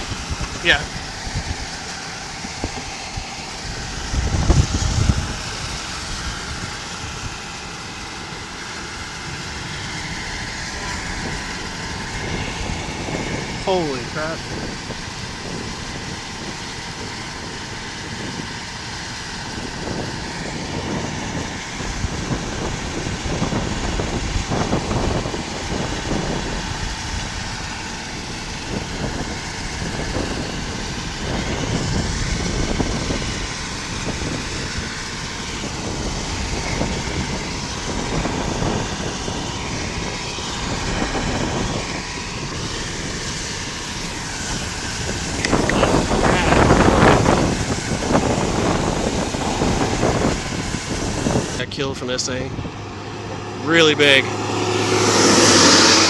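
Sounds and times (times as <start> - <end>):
strong wind buffeting microphone: 0.0 - 56.0.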